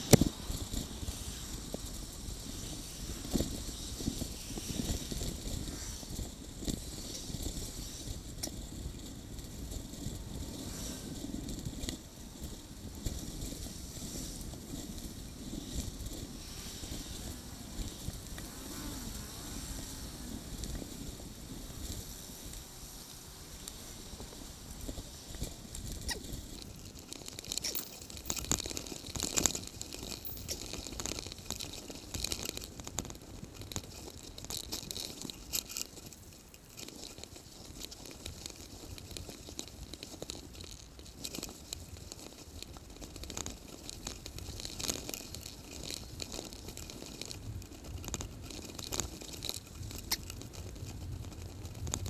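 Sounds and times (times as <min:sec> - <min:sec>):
bicycle clicks and rattles: 0:00.0 - 0:52.0
bicycle rolling rumble: 0:00.0 - 0:52.0.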